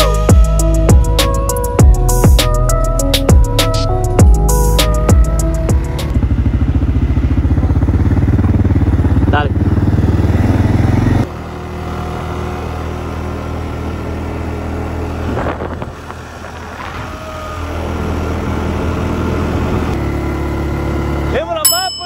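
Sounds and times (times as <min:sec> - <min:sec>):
atv engine running at low revs: 0:00.0 - 0:22.0.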